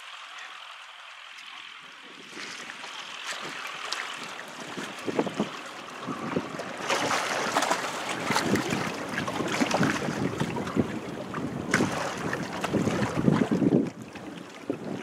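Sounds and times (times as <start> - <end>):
waves splashing against rocks: 1.3 - 15.0
wind buffeting microphone: 2.0 - 15.0.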